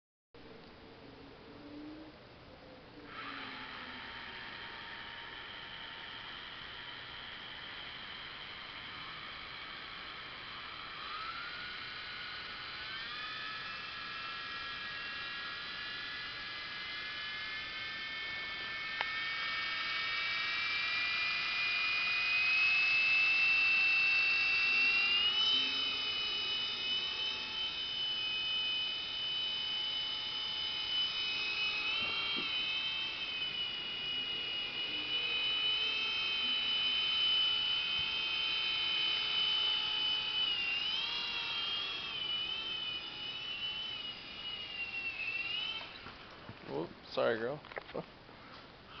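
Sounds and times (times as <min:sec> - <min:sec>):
small helicopter motors whining: 0:00.8 - 0:49.0.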